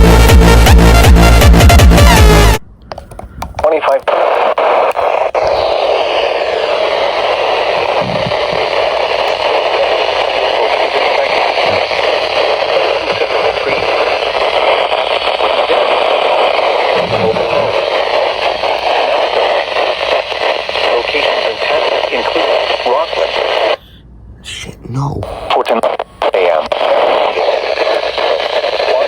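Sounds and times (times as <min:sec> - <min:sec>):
radio static hiss and crackle: 0:03.5 - 0:29.0.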